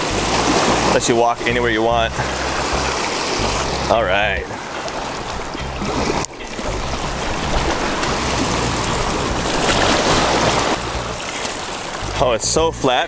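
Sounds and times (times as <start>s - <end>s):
waves washing over rocks: 0.0s - 13.0s.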